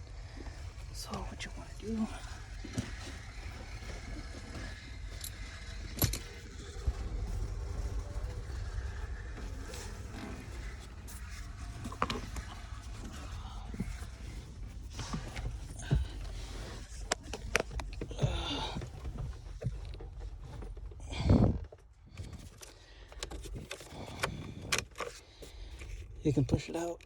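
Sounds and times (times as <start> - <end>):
steady low rumble: 0.0 - 22.4.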